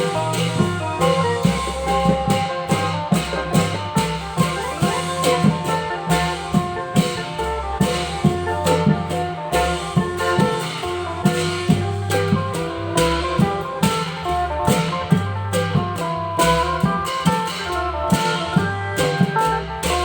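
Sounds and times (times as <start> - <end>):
long drum band music: 0.0 - 20.0.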